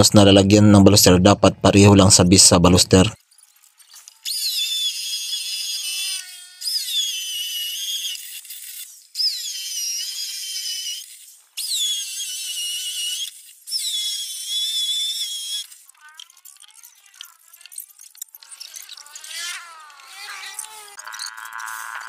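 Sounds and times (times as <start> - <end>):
electric drill boring into concrete: 3.2 - 22.0.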